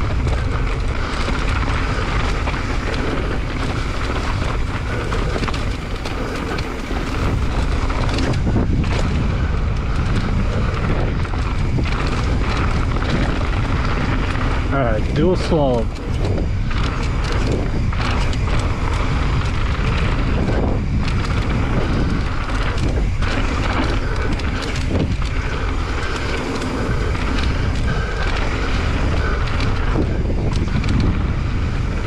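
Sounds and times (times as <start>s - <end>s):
bike knocks and rattles: 0.0s - 32.0s
bike tyres rolling on gravel: 0.0s - 32.0s
wind on microphone: 0.0s - 32.0s.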